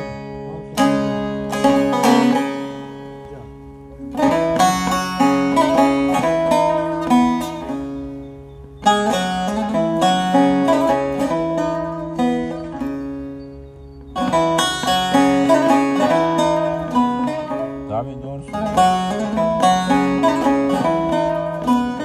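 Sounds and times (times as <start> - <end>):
plucked banjo music: 0.0 - 22.0.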